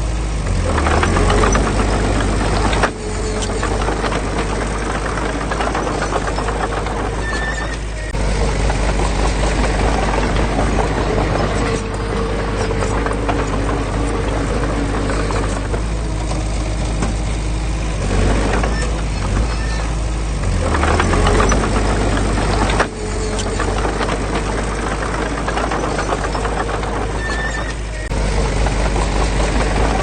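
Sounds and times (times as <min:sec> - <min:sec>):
heavy machinery diesel engine: 0:00.0 - 0:30.0
metallic clatter: 0:00.5 - 0:30.0.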